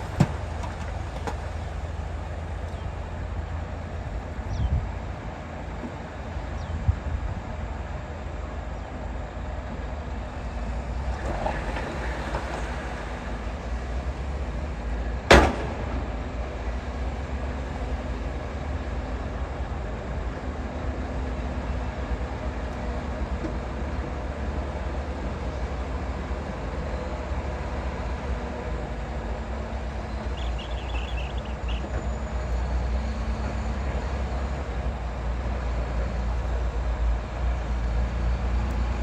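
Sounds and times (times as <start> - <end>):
heavy diesel machinery rumbling: 0.0 - 39.0.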